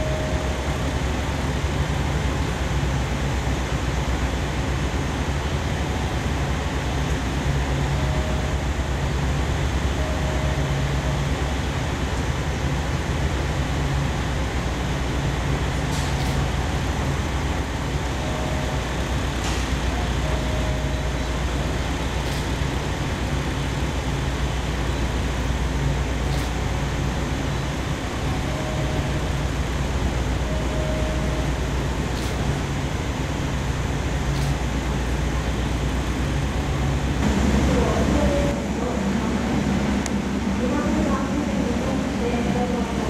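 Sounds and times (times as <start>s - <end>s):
diesel railcar engines humming: 0.0s - 43.0s.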